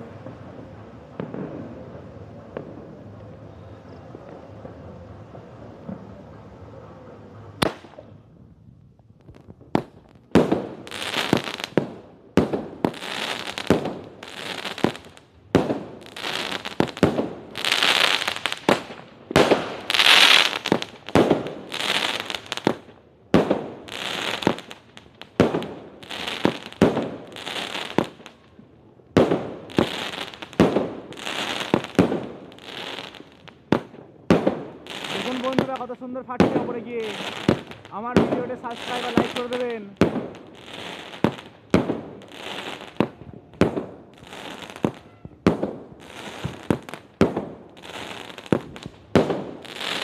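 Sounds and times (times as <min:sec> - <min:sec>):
firework bangs with crackling bursts: 0:00.0 - 0:50.0.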